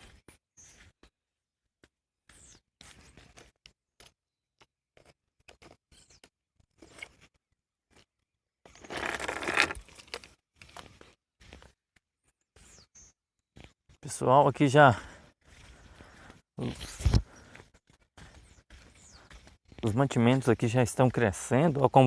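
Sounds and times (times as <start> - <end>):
footsteps in crop field: 0.0 - 1.1, 1.8 - 22.0.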